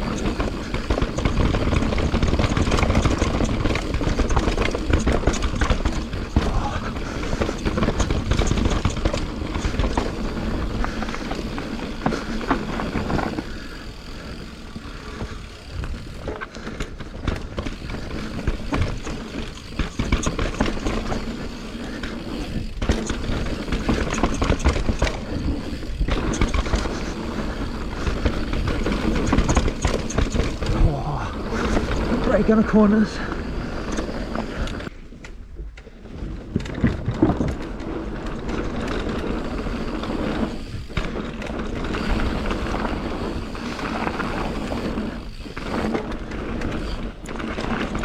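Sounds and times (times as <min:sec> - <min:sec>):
bike rattling and knocking: 0:00.0 - 0:48.0.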